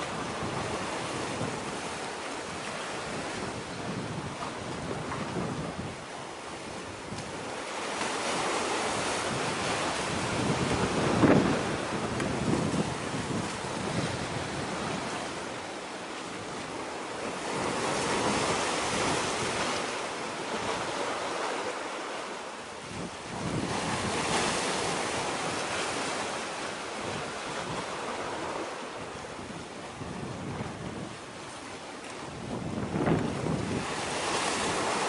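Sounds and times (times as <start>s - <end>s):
wind buffeting microphone: 0.0s - 22.0s, 22.8s - 35.0s
water rushing at shore: 0.0s - 35.0s.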